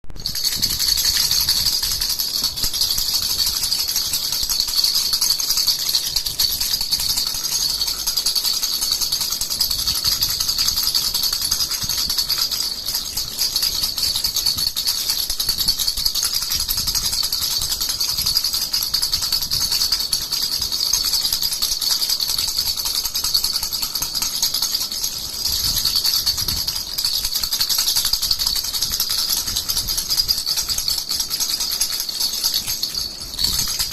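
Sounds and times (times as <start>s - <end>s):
baby rattle shaken: 0.0s - 33.9s.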